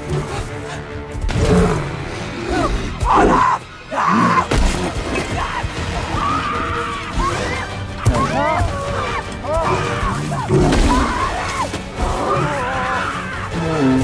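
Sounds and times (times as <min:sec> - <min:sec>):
dramatic orchestral score: 0:00.0 - 0:14.0.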